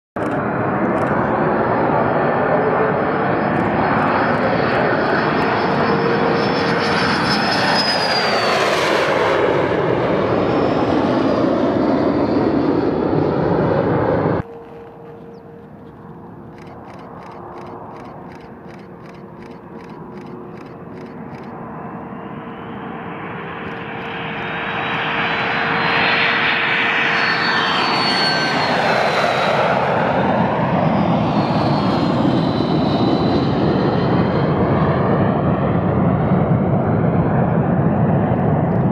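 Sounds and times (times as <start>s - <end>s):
jet engine roar and whine: 0.2s - 38.9s.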